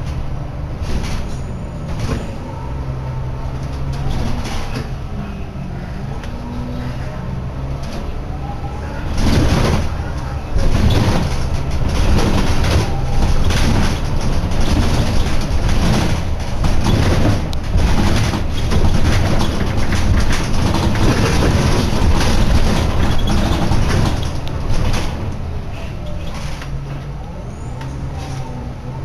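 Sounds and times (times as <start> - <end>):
bus body rattling: 0.0 - 29.0
bus engine and road rumble: 0.0 - 29.0.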